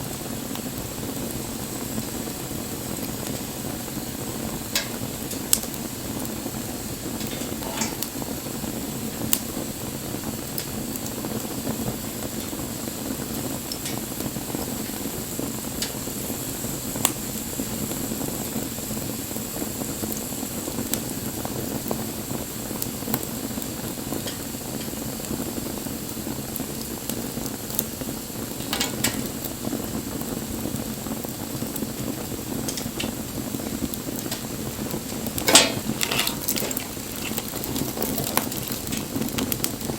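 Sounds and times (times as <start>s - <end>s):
burning wood crackling and popping: 0.0s - 39.9s
campfire hissing: 0.0s - 39.9s.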